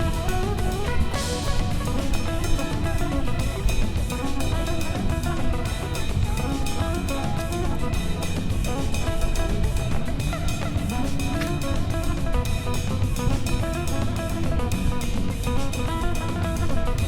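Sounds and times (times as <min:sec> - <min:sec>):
drum kit beat: 0:00.0 - 0:17.0
guitar music: 0:00.0 - 0:17.0.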